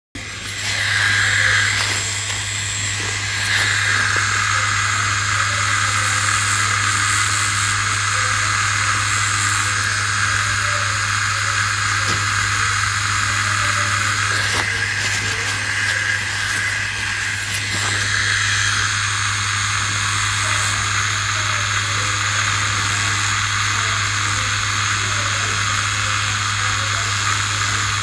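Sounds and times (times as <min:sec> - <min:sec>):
tattoo machine buzzing: 0:00.2 - 0:28.0.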